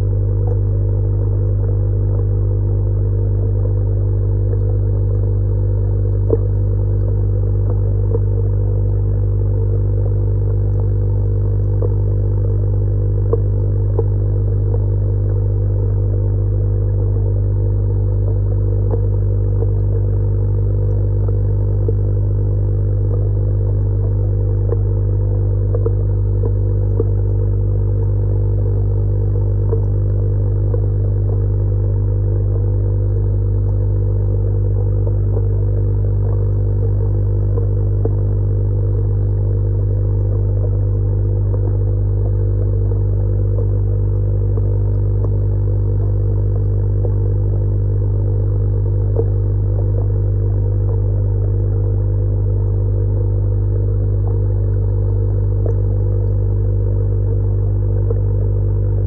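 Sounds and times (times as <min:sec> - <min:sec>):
low mechanical hum: 0:00.0 - 0:59.0
faint ticks: 0:00.1 - 0:59.0.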